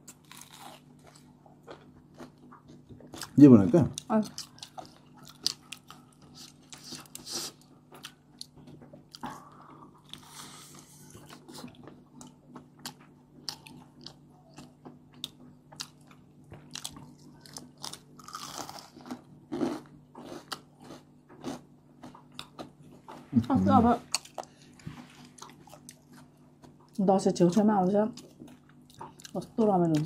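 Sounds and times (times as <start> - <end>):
people chewing crispy food: 0.0 - 27.2, 27.8 - 30.0
faint low hum: 0.0 - 30.0.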